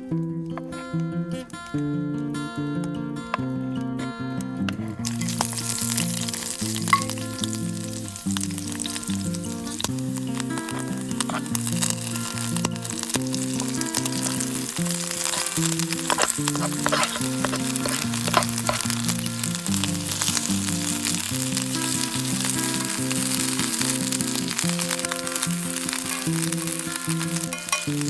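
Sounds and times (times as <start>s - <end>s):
music with held notes: 0.0s - 28.0s
food sizzling in a pan: 4.9s - 28.0s.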